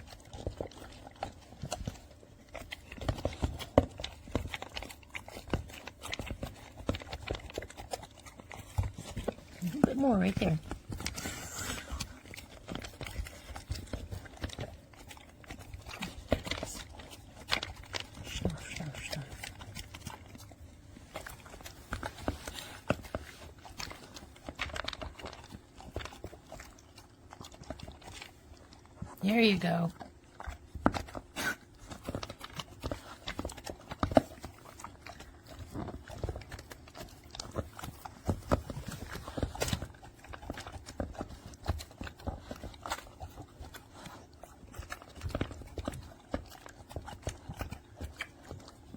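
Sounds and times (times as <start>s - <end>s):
dog eating kibble: 0.0s - 48.9s.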